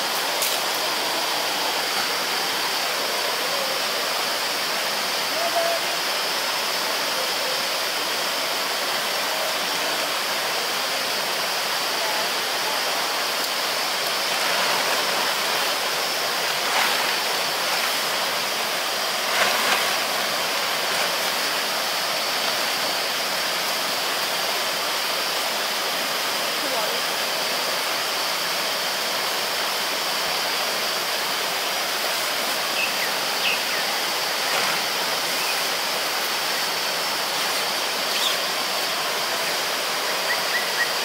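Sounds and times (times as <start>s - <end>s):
stream water over rocks: 0.0s - 41.0s.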